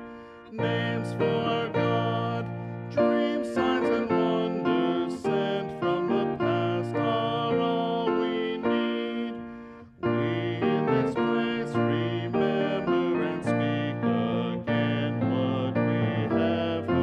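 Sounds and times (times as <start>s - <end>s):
piano playing hymn chords: 0.0s - 17.0s.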